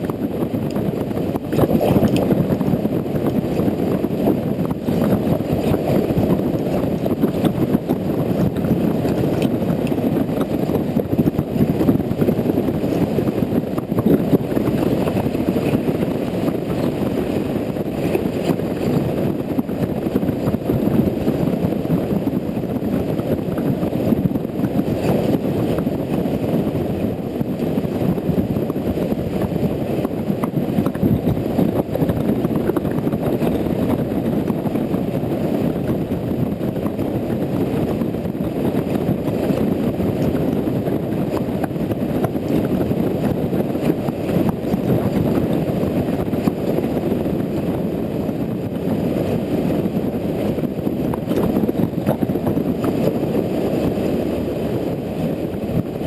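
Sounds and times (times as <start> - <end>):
muffled wind and road rumble: 0.0 - 56.0.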